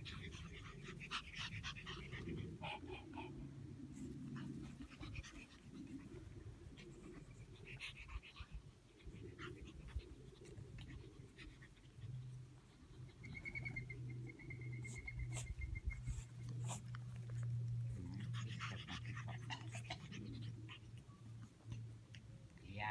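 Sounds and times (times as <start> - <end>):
puppies panting: 0.0 - 22.8.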